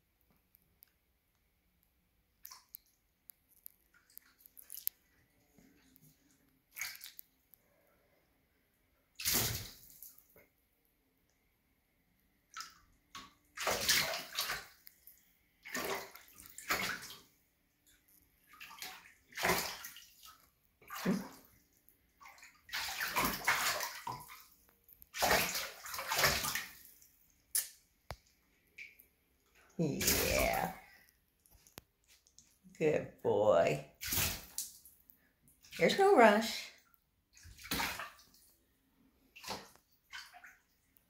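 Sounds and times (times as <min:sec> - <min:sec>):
water splashing and sloshing: 0:02.3 - 0:08.2, 0:09.1 - 0:10.6, 0:12.3 - 0:41.0.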